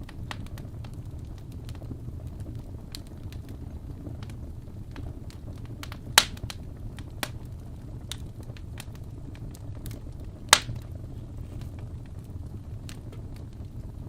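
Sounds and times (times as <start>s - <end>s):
loud fire snap: 0.0s - 14.0s
low steady fire rumble: 0.0s - 14.0s
wood fire crackling: 0.0s - 14.0s.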